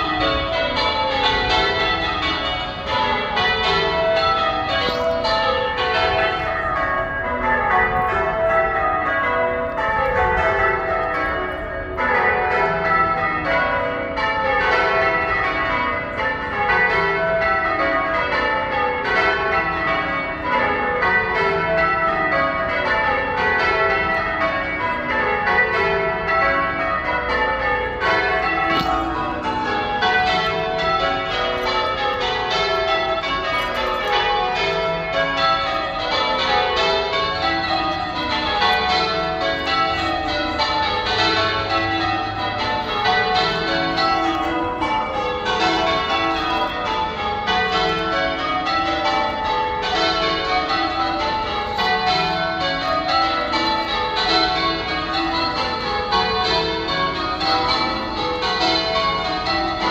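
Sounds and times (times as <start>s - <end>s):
church bells change ringing: 0.0s - 59.9s.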